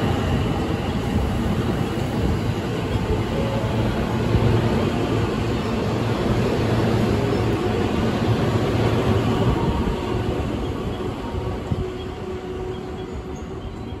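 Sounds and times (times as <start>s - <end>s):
train wheel-on-rail rumble: 0.0s - 14.0s.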